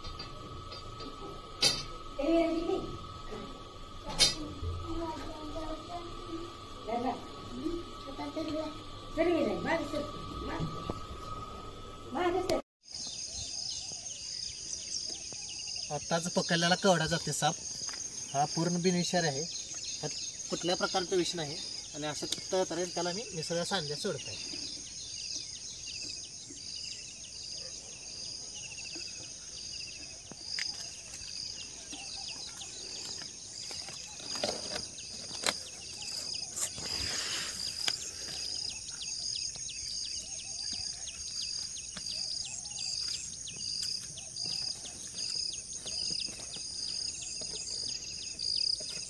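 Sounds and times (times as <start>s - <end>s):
crickets and insects calling: 0.0s - 49.0s
pulsing insect chirp: 0.0s - 49.0s.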